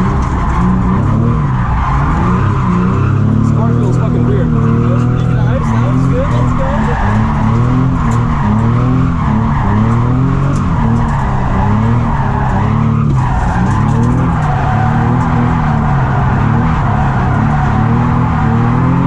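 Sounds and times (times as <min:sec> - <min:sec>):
car engine revving hard: 0:00.0 - 0:19.0
tyres squealing: 0:00.0 - 0:19.0.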